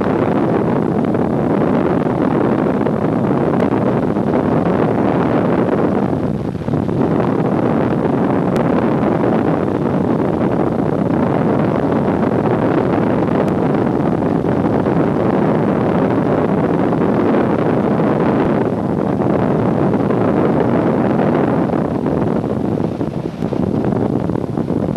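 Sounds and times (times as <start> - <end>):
airplane cabin roar: 0.0 - 24.9.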